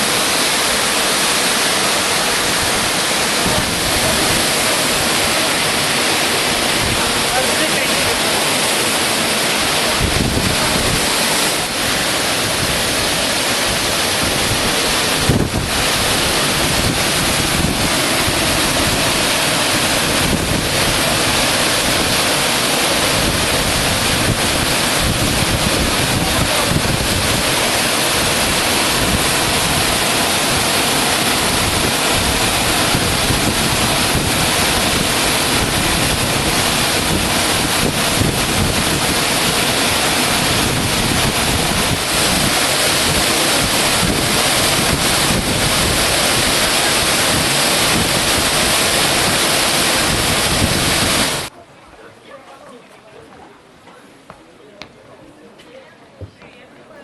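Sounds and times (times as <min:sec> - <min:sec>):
waterfall rushing: 0:00.0 - 0:51.5.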